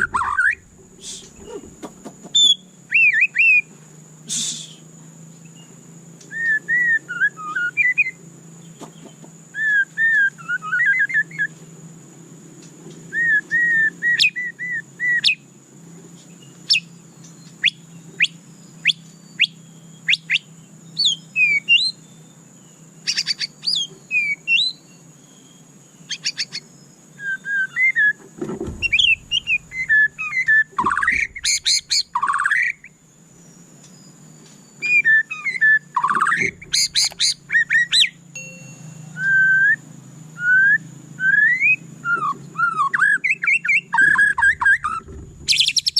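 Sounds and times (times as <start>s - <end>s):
songbird singing rich whistles: 0.0s - 8.9s, 9.5s - 11.5s, 13.1s - 15.5s, 16.3s - 45.9s
faint steady hum: 0.0s - 45.9s.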